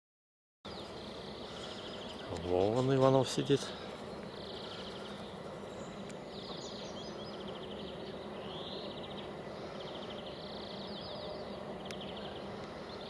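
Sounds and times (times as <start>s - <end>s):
songbirds trilling: 0.7s - 13.0s
steady outdoor hiss: 0.7s - 13.0s.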